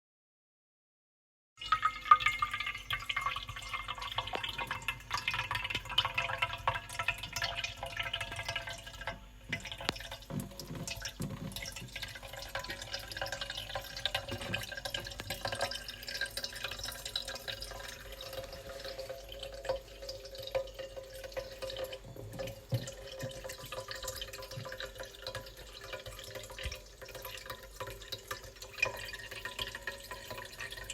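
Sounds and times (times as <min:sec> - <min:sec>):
water running and dripping: 0:01.6 - 0:30.9.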